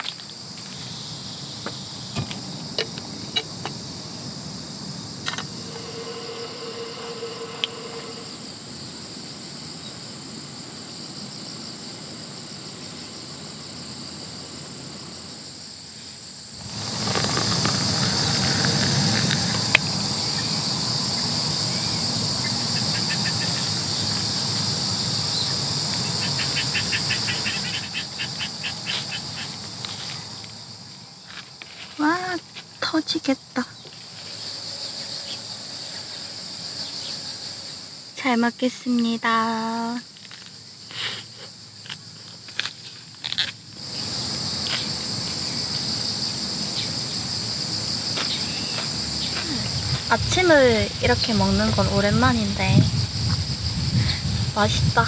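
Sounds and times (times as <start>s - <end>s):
steady hiss with low rumble: 0.0s - 31.9s, 40.0s - 55.0s
insects chirping: 0.0s - 55.0s.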